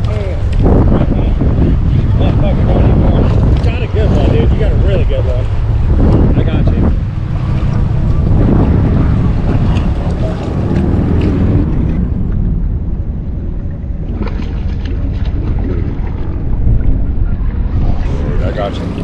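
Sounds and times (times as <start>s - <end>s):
water splashes: 0.0s - 19.0s
wind buffeting microphone: 0.0s - 19.0s.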